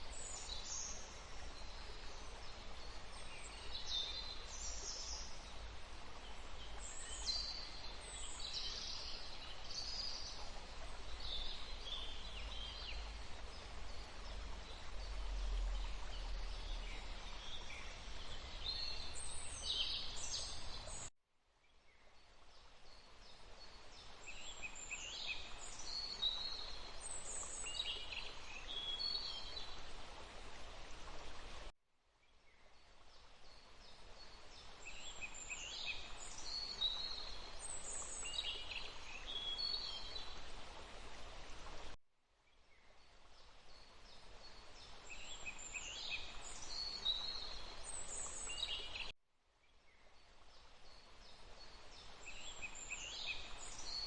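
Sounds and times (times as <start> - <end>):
running water: 0.0 - 21.1, 22.3 - 31.7, 32.8 - 42.0, 43.0 - 49.1, 50.2 - 54.0.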